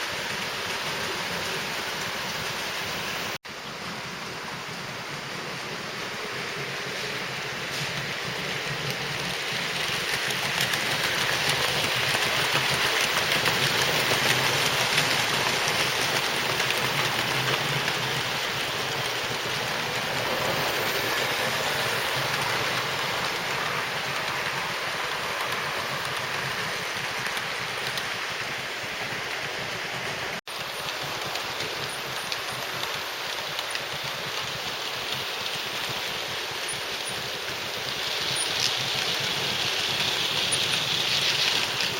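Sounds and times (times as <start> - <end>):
model train wheels rattling on rail: 6.2 - 41.9.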